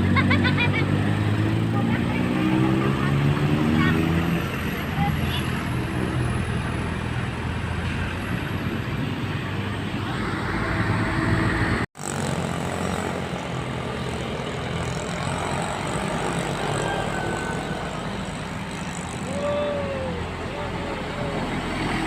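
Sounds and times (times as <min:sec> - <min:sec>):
bus engine running: 0:00.0 - 0:22.0
road traffic noise: 0:00.0 - 0:22.0.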